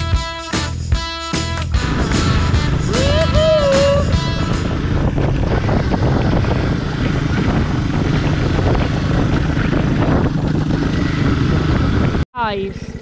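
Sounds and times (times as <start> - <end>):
motorcycle engine running: 1.8 - 13.0
wind noise on microphone: 1.8 - 13.0.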